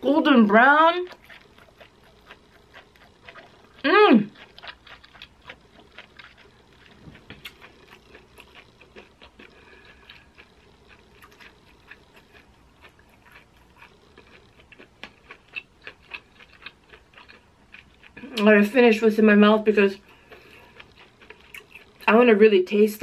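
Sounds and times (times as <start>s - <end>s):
chewing with soft crunches: 0.9s - 18.8s, 20.0s - 22.1s.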